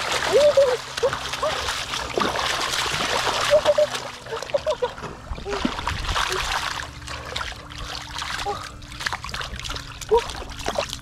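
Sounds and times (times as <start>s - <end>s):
fish thrashing in muddy water: 0.0s - 11.0s.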